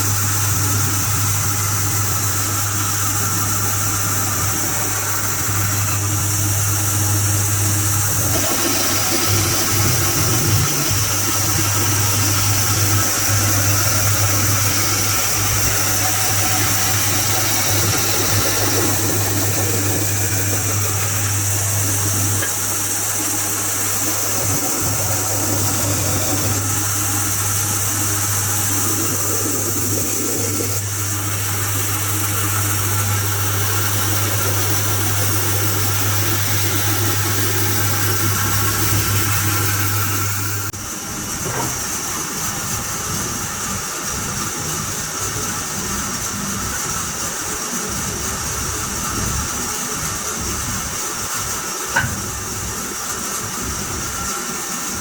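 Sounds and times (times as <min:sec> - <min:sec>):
machine motor humming and whirring: 0:00.0 - 0:55.0.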